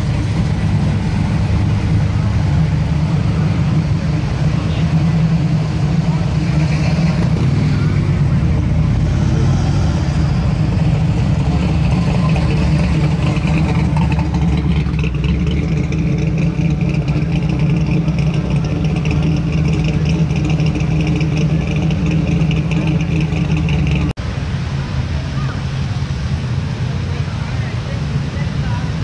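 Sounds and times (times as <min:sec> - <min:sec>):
car engines running slowly: 0:00.0 - 0:29.0.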